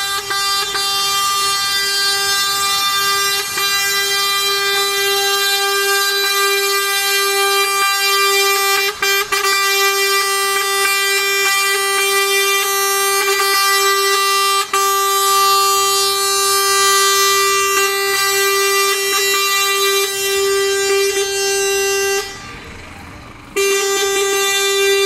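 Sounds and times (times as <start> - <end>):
truck air horn blast: 0.0 - 25.0.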